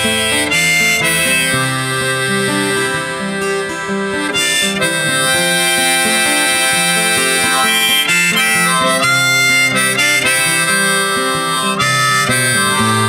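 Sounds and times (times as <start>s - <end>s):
acoustic guitar: 0.0s - 13.0s
harmonica melody: 0.0s - 13.0s.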